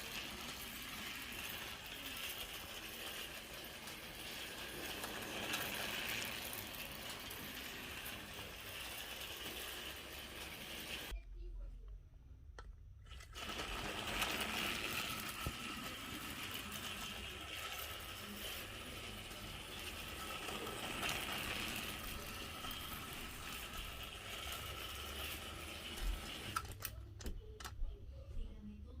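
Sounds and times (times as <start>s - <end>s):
toy train motor whirring: 0.0s - 11.1s, 13.1s - 27.1s.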